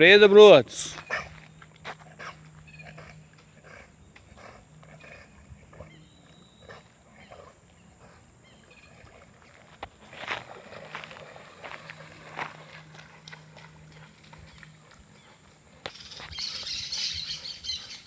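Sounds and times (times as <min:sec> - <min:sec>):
dog panting: 0:01.0 - 0:18.0.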